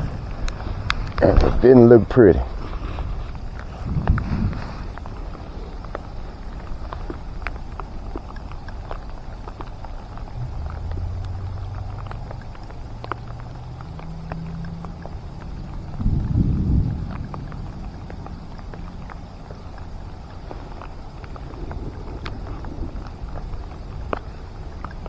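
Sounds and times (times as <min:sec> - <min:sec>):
low rumble: 0:00.0 - 0:25.0
raindrops tapping on microphone: 0:00.0 - 0:25.0
steady low hum: 0:00.0 - 0:25.0.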